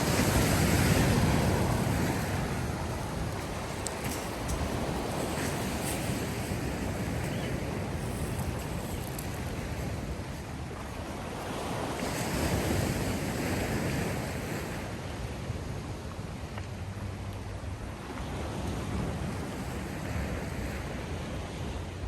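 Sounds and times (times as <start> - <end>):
surf washing ashore: 0.0 - 22.0
wind: 0.0 - 22.0.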